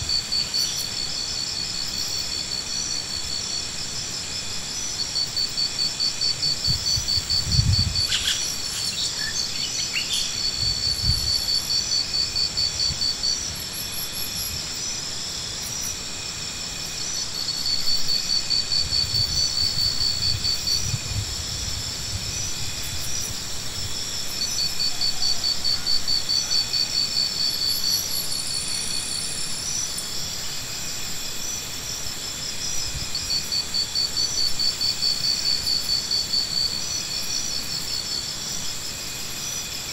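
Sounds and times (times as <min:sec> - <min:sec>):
insects chirping trills: 0:00.0 - 0:39.9.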